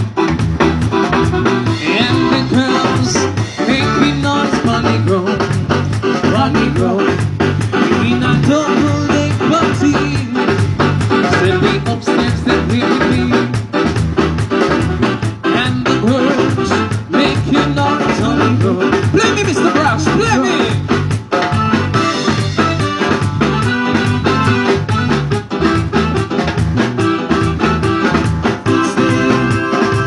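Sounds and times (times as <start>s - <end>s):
band music: 0.0s - 30.0s.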